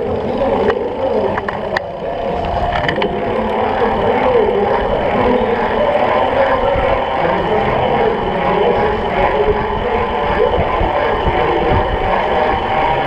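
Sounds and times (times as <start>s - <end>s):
voices calling out: 0.0s - 13.0s
wind buffeting microphone: 0.0s - 13.0s.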